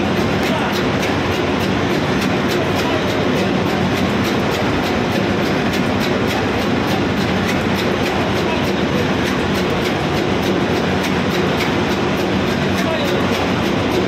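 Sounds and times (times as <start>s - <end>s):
diesel engine room din: 0.0s - 14.0s
regular ticking: 0.0s - 14.0s.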